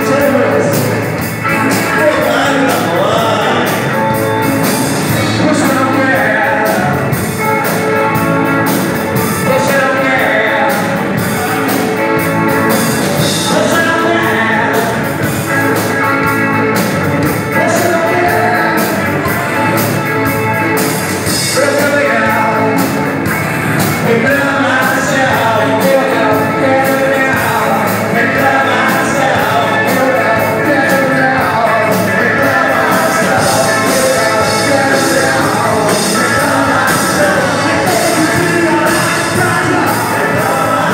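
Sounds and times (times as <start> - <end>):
man singing: 0.0 - 20.4, 21.0 - 23.1, 23.8 - 40.9
bass guitar: 0.0 - 40.9
drum kit: 0.0 - 40.9
electric guitars: 0.0 - 40.9.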